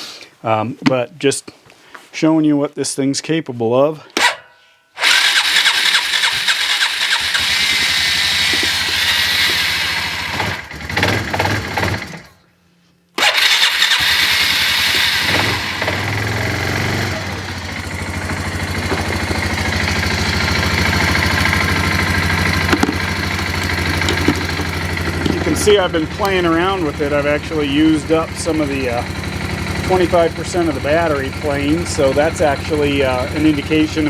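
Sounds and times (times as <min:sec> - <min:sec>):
engine starting and idling: 0:04.2 - 0:04.4, 0:05.0 - 0:12.4, 0:13.2 - 0:34.0.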